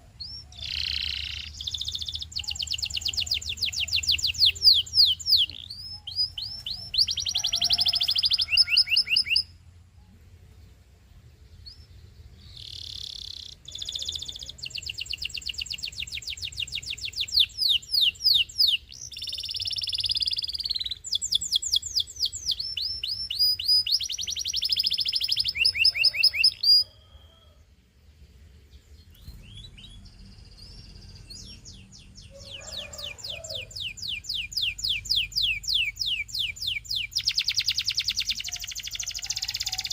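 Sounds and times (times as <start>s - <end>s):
canary singing trills: 0.0s - 9.6s, 11.4s - 27.7s, 28.8s - 39.9s.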